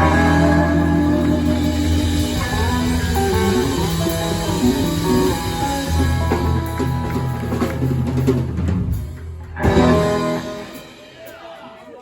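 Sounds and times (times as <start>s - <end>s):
bass guitar: 0.0s - 11.3s
drum kit: 0.0s - 12.0s
live band playing: 0.0s - 12.0s.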